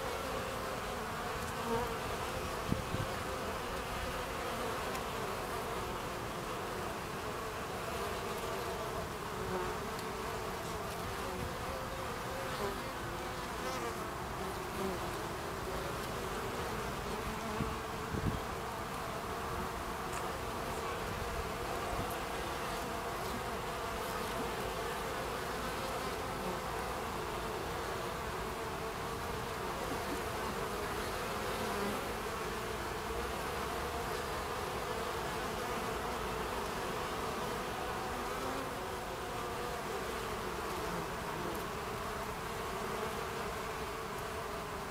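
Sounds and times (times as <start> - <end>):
bees buzzing: 0.0 - 44.9.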